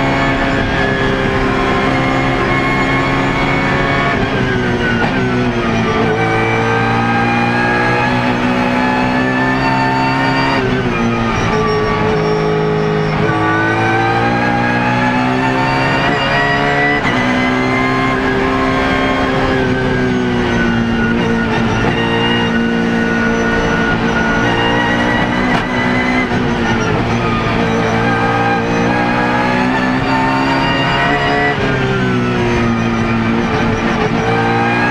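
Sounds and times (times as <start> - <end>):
race car engine shifting gears: 0.0 - 34.9.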